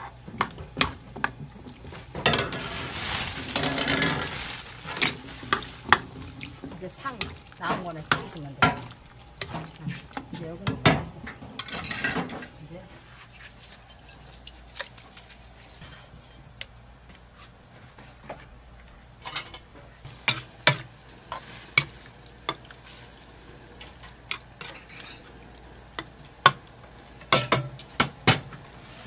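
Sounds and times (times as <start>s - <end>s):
faint sizzle: 0.0s - 29.0s.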